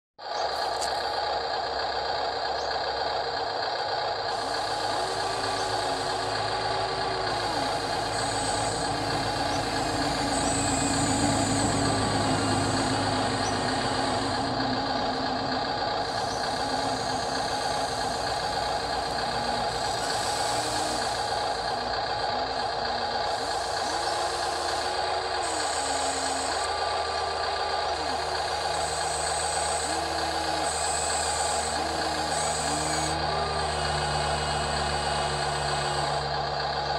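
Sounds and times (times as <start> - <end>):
electric motors whining: 0.2 - 36.9
simulated diesel engine: 0.2 - 36.9.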